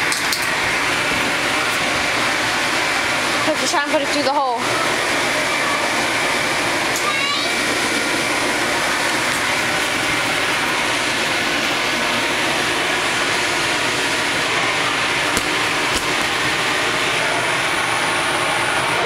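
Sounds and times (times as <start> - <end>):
electric blower running: 0.0 - 19.0.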